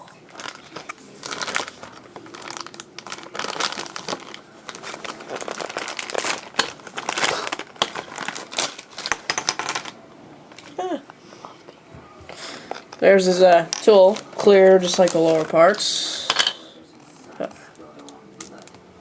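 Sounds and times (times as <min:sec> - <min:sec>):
plastic packaging crinkling: 0:00.0 - 0:10.8, 0:12.4 - 0:18.8
sharp plastic crackles: 0:00.0 - 0:10.8, 0:12.3 - 0:16.4, 0:17.0 - 0:18.9.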